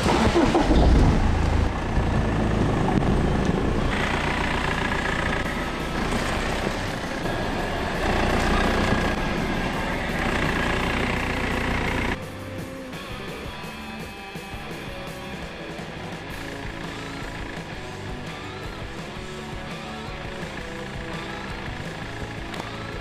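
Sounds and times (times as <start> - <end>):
car engine running at low speed: 0.0 - 23.0.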